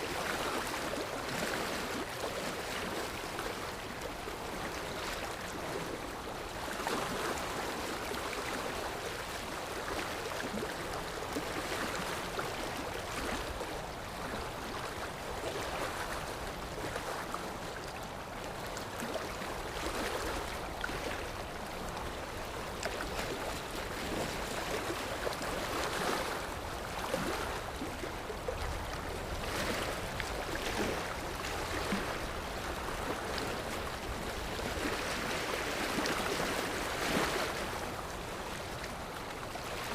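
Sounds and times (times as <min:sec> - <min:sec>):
sea waves on shore: 0:00.0 - 0:39.9.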